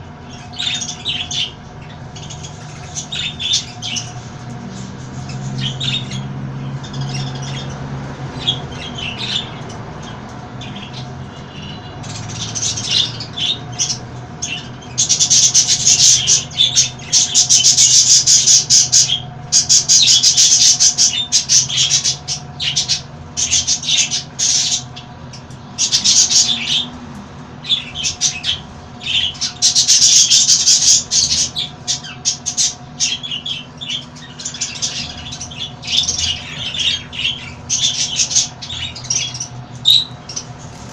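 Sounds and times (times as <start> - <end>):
parrots squawking: 0.2 - 27.0, 27.6 - 40.9.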